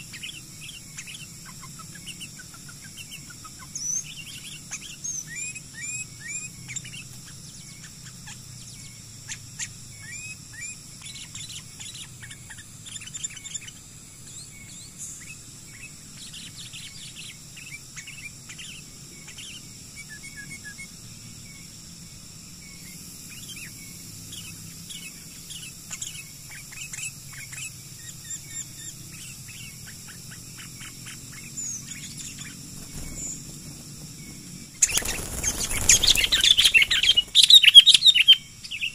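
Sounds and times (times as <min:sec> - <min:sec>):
birds chirping: 0:00.0 - 0:21.7, 0:22.6 - 0:38.9
steady high-pitched hum: 0:00.0 - 0:38.9.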